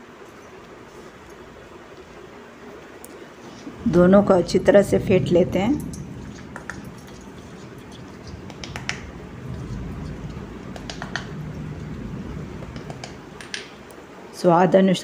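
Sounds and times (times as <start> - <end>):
hand mixing in a bowl rustling: 0.0 - 13.4.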